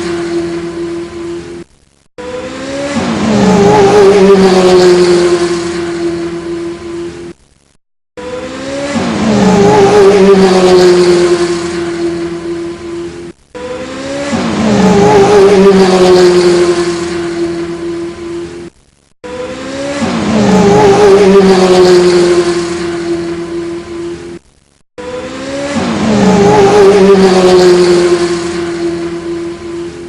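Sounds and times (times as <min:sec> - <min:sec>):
car engine sound effect: 0:00.0 - 0:07.4, 0:08.2 - 0:24.4, 0:25.0 - 0:30.0.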